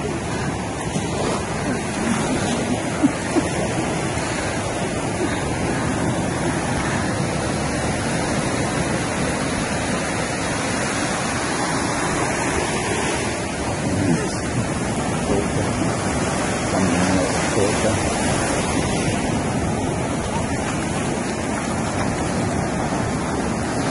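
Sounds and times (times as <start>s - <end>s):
ocean surf on a beach: 0.0s - 23.9s
wind on microphone: 0.0s - 23.9s.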